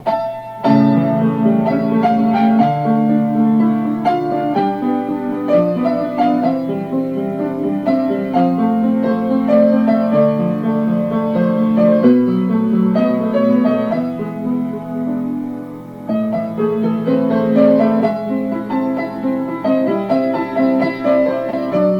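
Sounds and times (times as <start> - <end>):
piano playing slow melody: 0.0 - 21.9.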